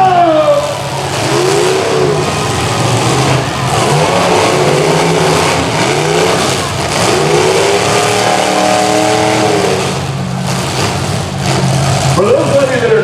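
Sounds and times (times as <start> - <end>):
car engines revving: 0.0 - 13.0
low engine drone: 0.0 - 13.0.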